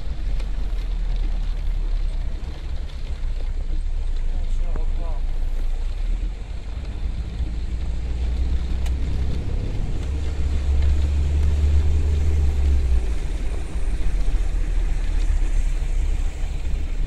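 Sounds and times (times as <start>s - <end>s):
heavy rain and wind on car: 0.0s - 17.0s.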